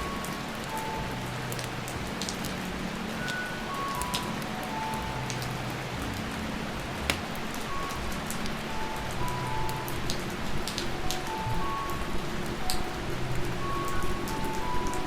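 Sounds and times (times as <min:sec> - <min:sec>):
heavy rain on a tin roof: 0:00.0 - 0:15.0
soft background music: 0:00.0 - 0:15.0.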